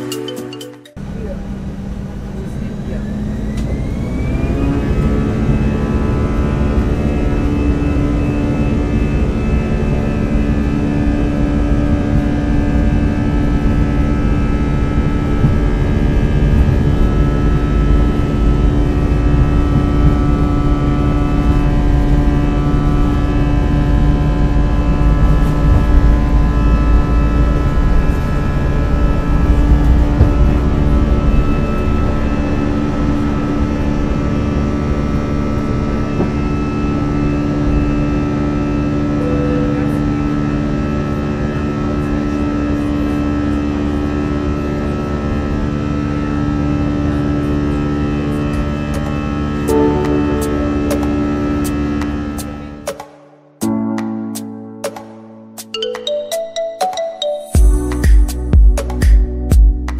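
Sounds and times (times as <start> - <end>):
takeoff roll rumble: 1.0 - 52.9
jet engines droning: 1.0 - 53.0.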